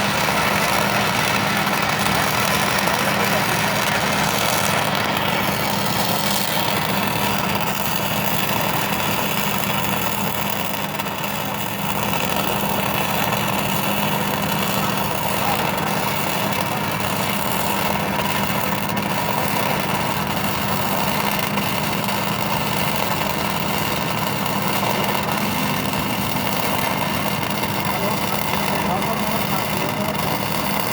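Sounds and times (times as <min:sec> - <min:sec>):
welding arc noise: 0:00.0 - 0:30.9.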